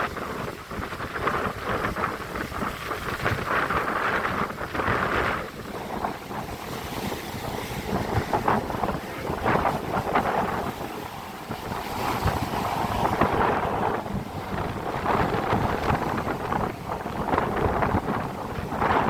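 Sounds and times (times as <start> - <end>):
storm wind buffeting microphone: 0.0 - 19.0.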